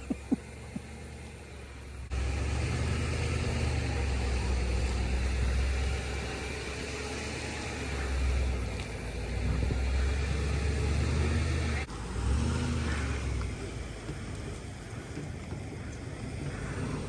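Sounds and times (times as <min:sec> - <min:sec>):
vehicle engine running at low speed: 0:00.0 - 0:17.0.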